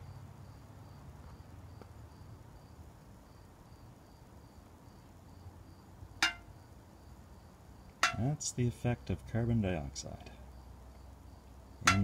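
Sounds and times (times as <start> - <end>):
insect chirping: 0.0 - 9.1, 10.3 - 12.0.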